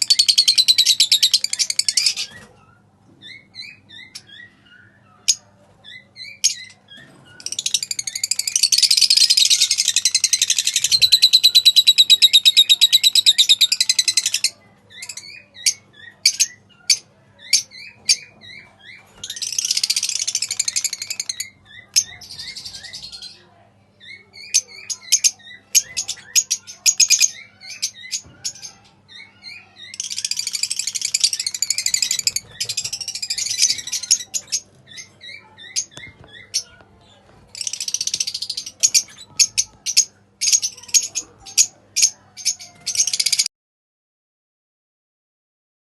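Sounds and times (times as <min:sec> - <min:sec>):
birds chattering and chirping: 0:00.0 - 0:43.5.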